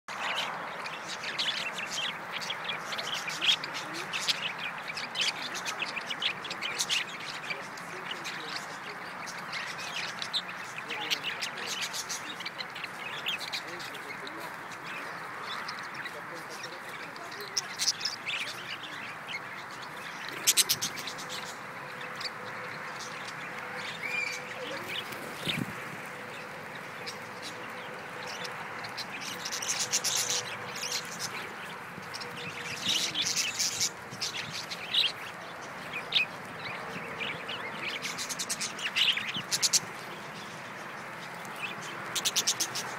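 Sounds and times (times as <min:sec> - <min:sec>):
budgerigars chattering: 0:00.1 - 0:42.9
high bird chirps and warbles: 0:00.1 - 0:42.9.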